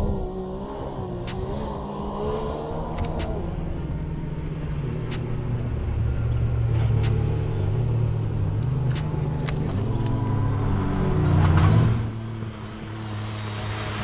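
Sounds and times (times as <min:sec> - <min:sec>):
buggy engine running: 0:00.0 - 0:14.0.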